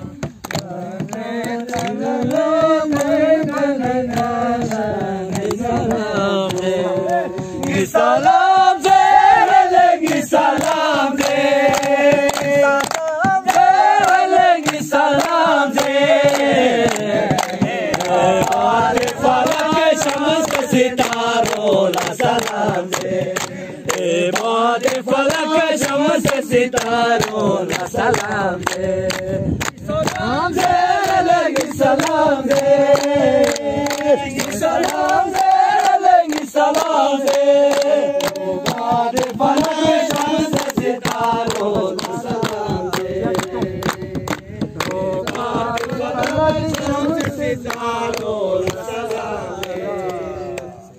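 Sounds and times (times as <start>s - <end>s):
voices singing together: 0.0s - 50.9s.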